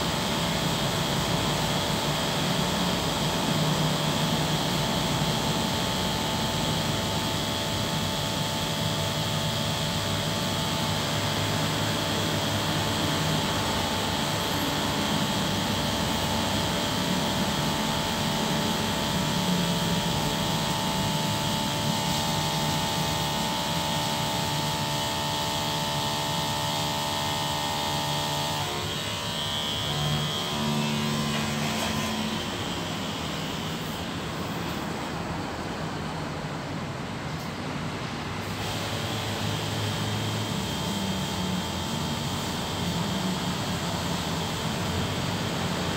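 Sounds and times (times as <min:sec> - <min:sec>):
motorised spray pump running: 0:00.0 - 0:35.9, 0:38.3 - 0:45.9.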